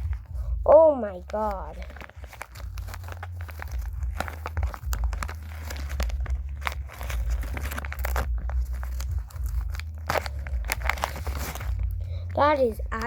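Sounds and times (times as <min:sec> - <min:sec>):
low steady hum: 0:00.0 - 0:13.0
packaging crinkling and rustling: 0:00.0 - 0:13.0.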